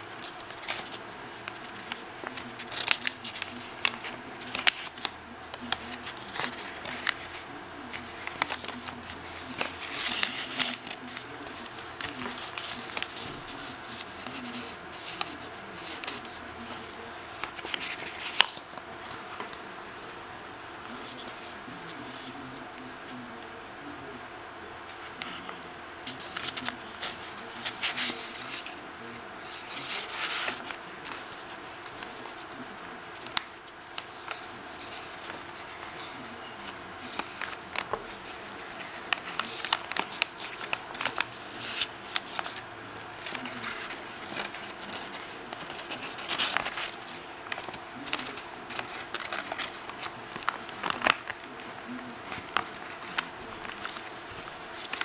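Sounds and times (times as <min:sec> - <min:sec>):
paper rustling and crinkling: 0:00.0 - 0:23.9, 0:24.7 - 0:55.0.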